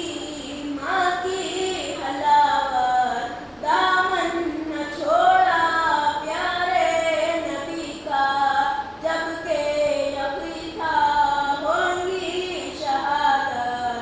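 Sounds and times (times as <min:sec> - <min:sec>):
person singing solo unaccompanied: 0:00.0 - 0:14.0.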